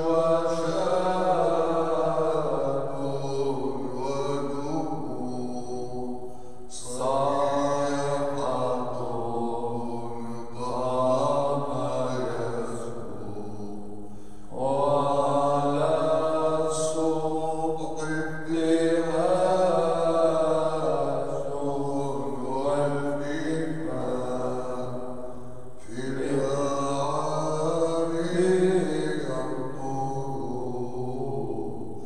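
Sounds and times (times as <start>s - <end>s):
man chanting a hymn: 0.0s - 32.0s.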